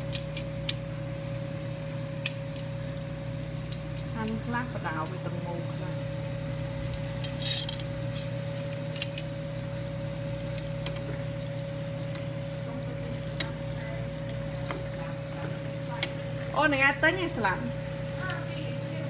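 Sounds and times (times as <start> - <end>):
meatballs sizzling in oil: 0.0 - 19.0.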